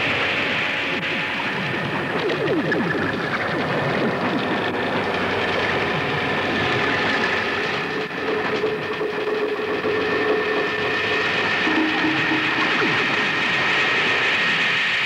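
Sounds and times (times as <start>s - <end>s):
dense rattling noise: 0.0s - 15.0s
high droning tones: 0.0s - 15.0s.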